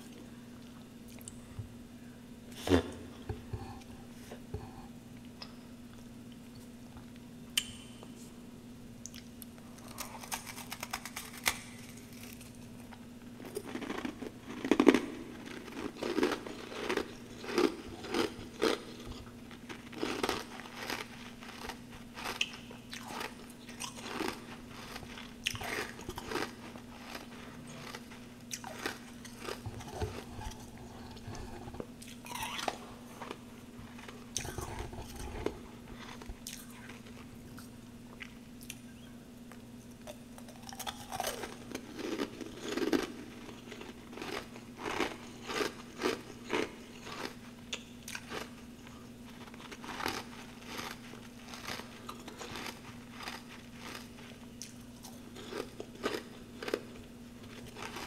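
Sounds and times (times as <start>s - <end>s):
faint steady hum: 0.0s - 58.0s
crunching and chewing ice: 9.2s - 38.8s, 40.0s - 58.0s.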